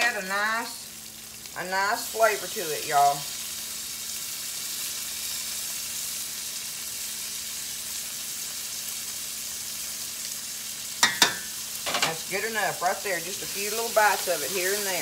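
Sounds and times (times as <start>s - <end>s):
rice sizzling in hot oil: 0.0s - 15.0s.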